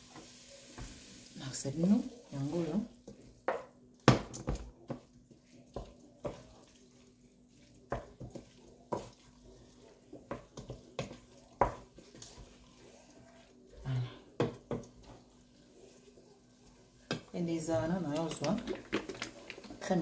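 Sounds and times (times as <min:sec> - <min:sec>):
wooden spoon stirring pasta in pot: 0:00.0 - 0:20.0.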